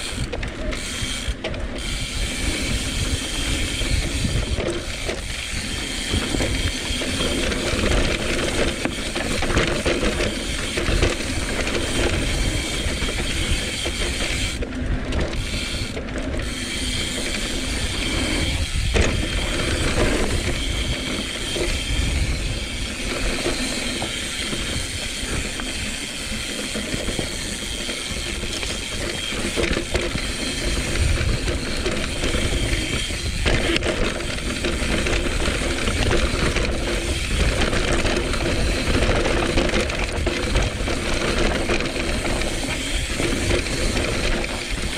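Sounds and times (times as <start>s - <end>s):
bike rattling: 0.0s - 44.9s
freehub ratchet buzzing: 0.0s - 44.9s
low wind rumble: 0.0s - 44.9s.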